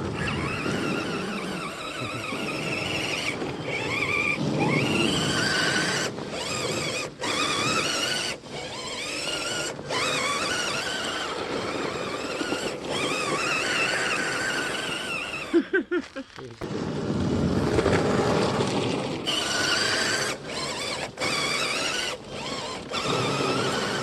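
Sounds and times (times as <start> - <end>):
electric motor whining: 0.0 - 15.6, 18.0 - 24.0.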